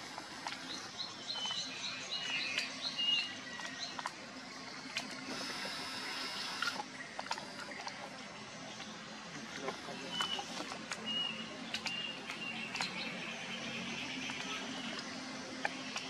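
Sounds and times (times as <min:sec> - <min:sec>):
birds chirping: 0:00.0 - 0:16.0
pond water stirring: 0:00.0 - 0:16.0.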